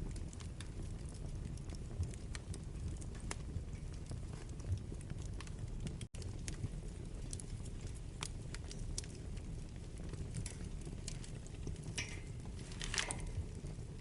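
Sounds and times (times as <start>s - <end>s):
low fire rumble: 0.0s - 14.0s
wood fire crackling and popping: 0.0s - 14.0s.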